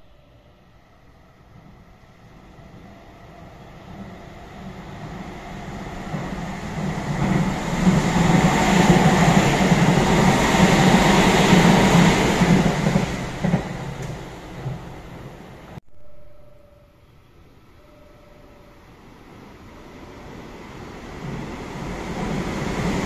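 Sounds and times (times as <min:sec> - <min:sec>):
train passing at speed: 0:00.0 - 0:15.8, 0:17.6 - 0:23.0.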